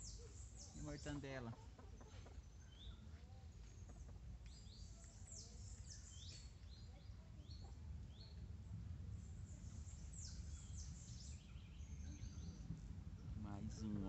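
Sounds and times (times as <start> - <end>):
faint bird chirps: 0.0 - 8.5, 9.1 - 13.8
low steady rumble: 2.4 - 14.0.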